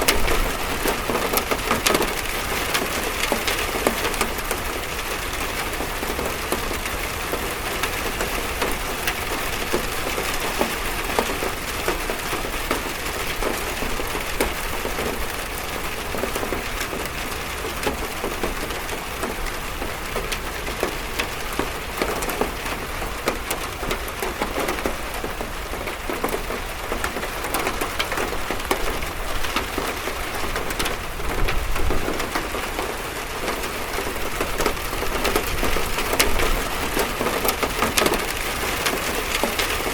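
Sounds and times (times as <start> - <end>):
rain drumming on a metal roof: 0.0 - 39.9.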